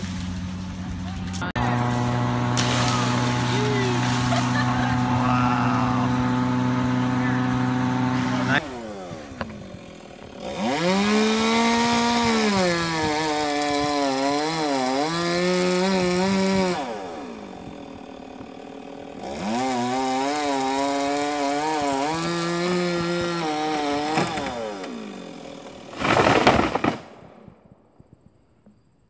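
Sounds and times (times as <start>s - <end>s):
chainsaw revving and idling: 0.0s - 27.2s.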